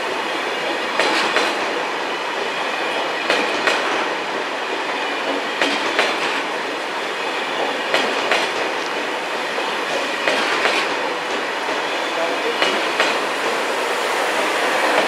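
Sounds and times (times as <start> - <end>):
train wheels rolling: 0.0 - 15.0.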